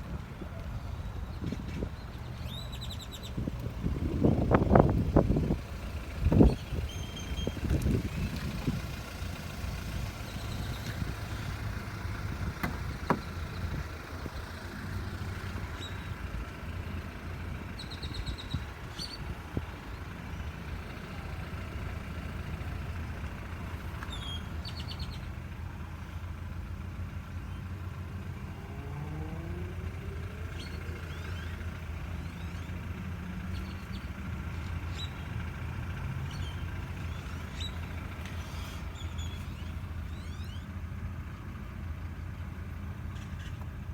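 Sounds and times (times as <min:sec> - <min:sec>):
car engine running: 0:00.0 - 0:43.9
birds chirping: 0:00.4 - 0:25.4, 0:28.6 - 0:40.9.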